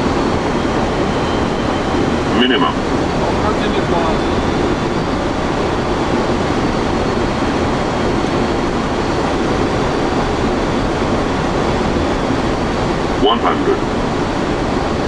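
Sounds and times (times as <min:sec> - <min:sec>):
air conditioning hum: 0:00.0 - 0:15.0
aircraft engines humming: 0:00.0 - 0:15.0.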